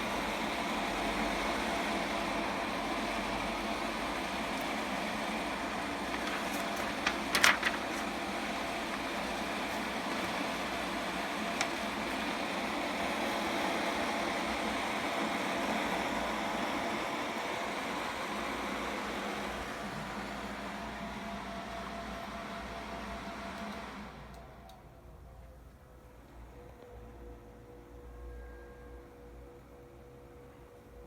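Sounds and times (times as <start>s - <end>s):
computer cooler whirring hum: 0.0s - 31.0s.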